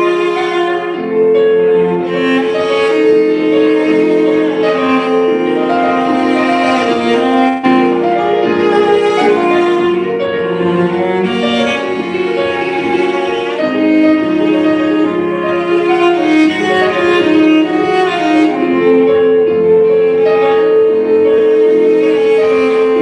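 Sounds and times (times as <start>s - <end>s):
cello bowing long notes: 0.0s - 23.0s
digital piano playing: 0.0s - 23.0s.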